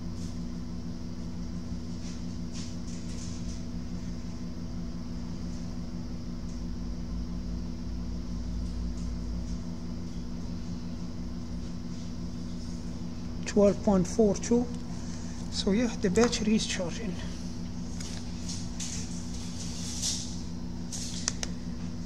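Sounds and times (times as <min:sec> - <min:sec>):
workshop mechanical hum: 0:00.0 - 0:22.0.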